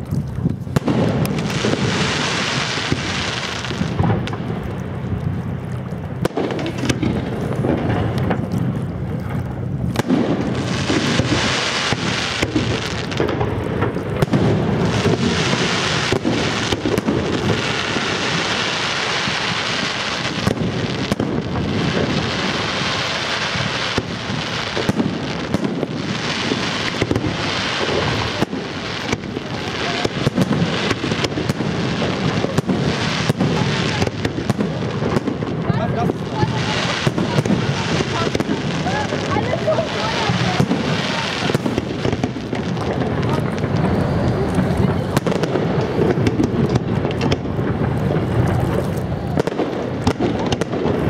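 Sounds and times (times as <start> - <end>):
fireworks crackling: 0.0 - 51.0.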